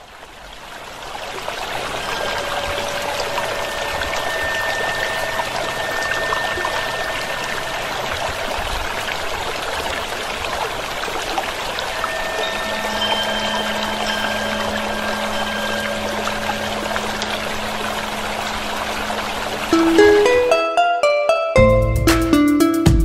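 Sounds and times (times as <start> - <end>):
fountain water splashing: 0.0 - 20.6.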